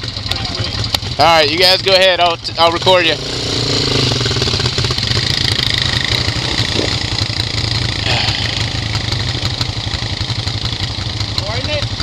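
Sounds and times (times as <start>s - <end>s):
atv engines idling: 0.0s - 12.0s.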